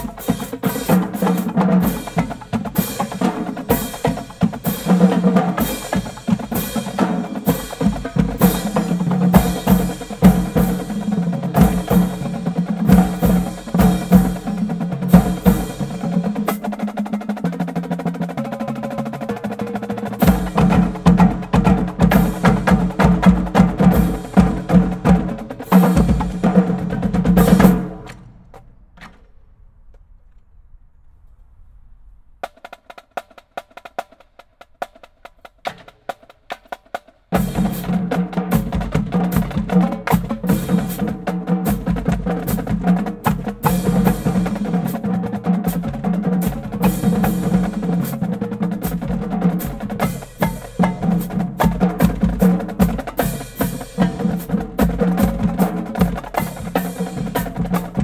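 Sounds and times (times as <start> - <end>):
marching drumline playing: 0.0 - 28.4, 32.4 - 58.0.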